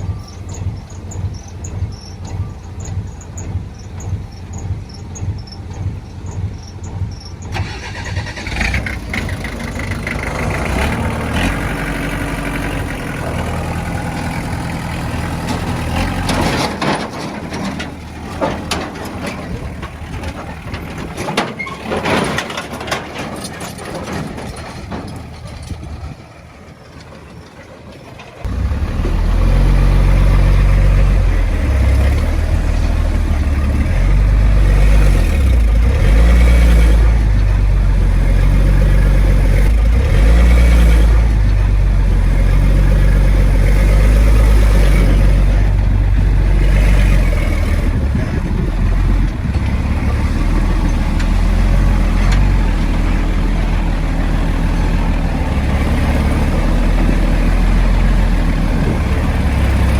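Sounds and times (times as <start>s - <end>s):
diesel engines revving: 0.0s - 59.9s
loud deep engine: 0.0s - 59.9s
machinery rattling and clatter: 0.0s - 59.9s.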